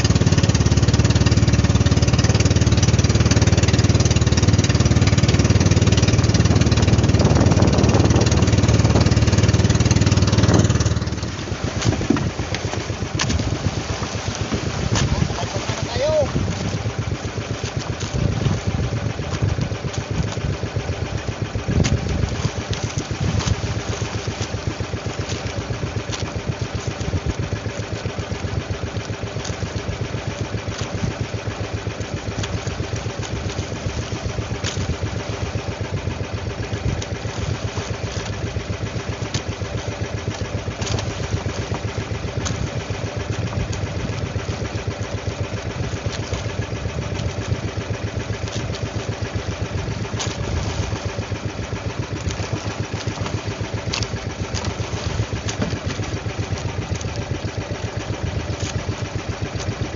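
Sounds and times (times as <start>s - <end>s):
small boat engine throbbing: 0.0s - 59.9s.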